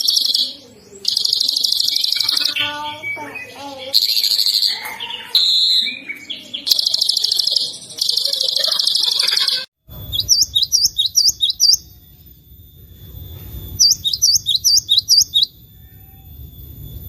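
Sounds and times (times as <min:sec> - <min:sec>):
songbird whistling: 0:00.0 - 0:09.2, 0:10.0 - 0:17.0.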